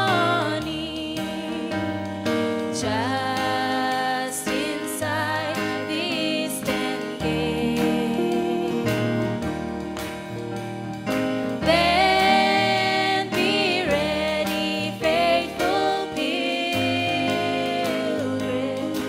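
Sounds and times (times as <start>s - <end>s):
women singing gospel: 0.0s - 9.5s, 11.6s - 19.0s
instrumental accompaniment: 0.0s - 19.0s.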